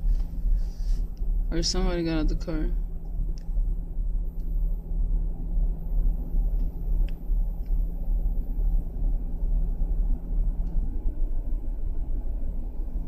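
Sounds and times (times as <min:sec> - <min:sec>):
car idling: 0:00.0 - 0:13.0
steady hum: 0:00.0 - 0:13.0.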